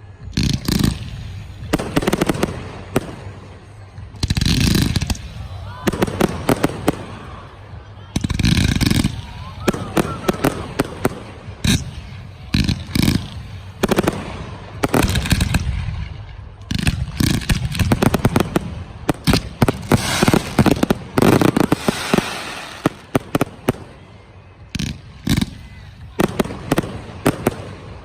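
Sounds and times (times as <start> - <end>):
fireworks bangs with crackling: 0.1 - 28.0.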